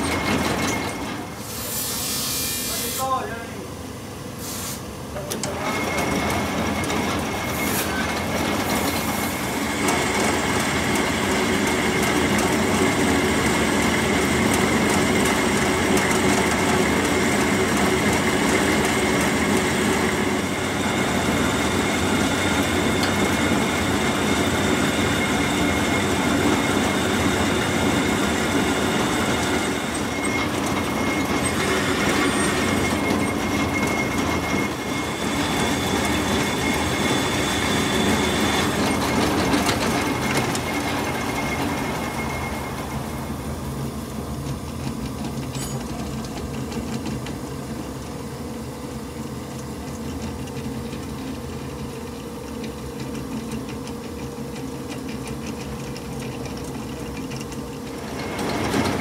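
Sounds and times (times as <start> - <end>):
metal lathe running: 0.0 - 3.6, 5.2 - 59.0.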